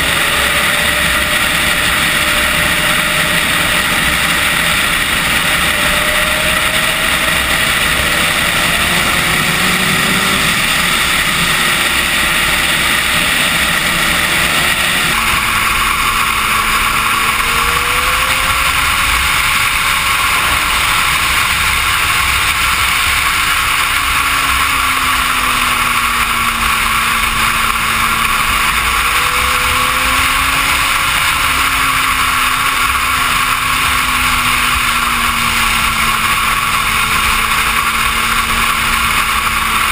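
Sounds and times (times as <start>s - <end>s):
motorcycle engine running at speed: 0.0s - 39.9s
wind rush on microphone: 0.0s - 39.9s.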